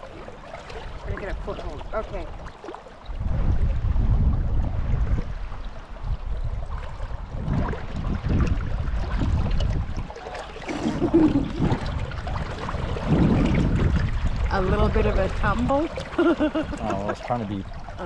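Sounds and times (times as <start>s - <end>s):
low rumble on microphone: 0.0s - 18.0s.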